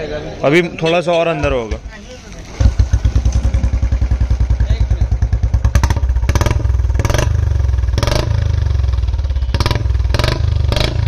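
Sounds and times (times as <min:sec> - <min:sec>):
motorcycle engine idling: 0:01.8 - 0:11.0.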